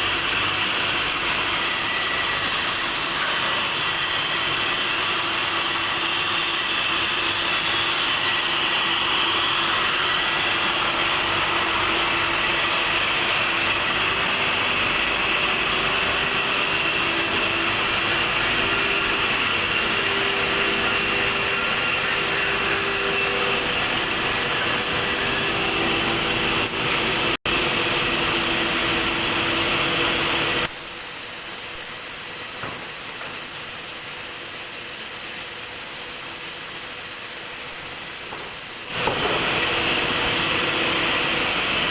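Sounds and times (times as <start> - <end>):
extrusion machinery whirring: 0.0 - 41.9.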